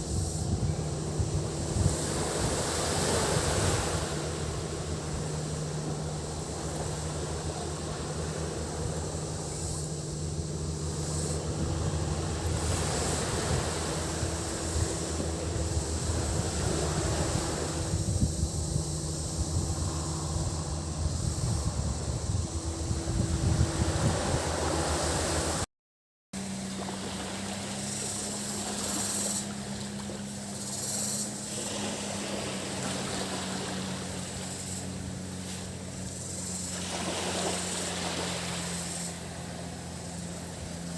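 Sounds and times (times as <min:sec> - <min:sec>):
sea waves washing onto beach: 0:00.0 - 0:21.0, 0:21.6 - 0:25.6, 0:26.4 - 0:40.9
boat engine humming: 0:00.0 - 0:25.7, 0:26.4 - 0:40.9
cicada drone: 0:00.0 - 0:25.7, 0:26.4 - 0:40.9.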